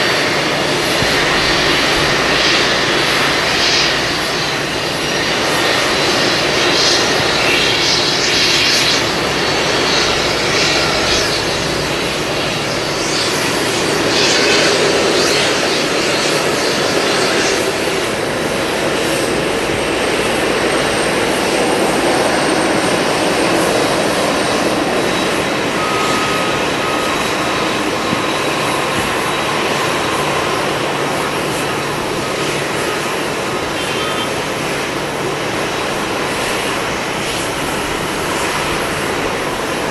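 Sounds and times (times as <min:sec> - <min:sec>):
high jet whine: 0:00.0 - 0:39.9
jet engines roaring: 0:00.0 - 0:39.9.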